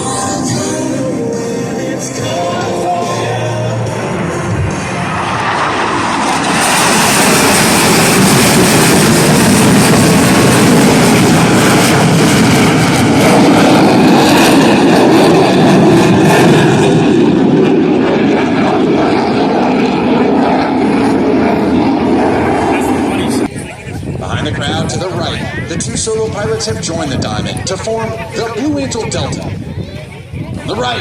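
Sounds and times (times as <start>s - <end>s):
jet engine roar: 0.0s - 31.0s.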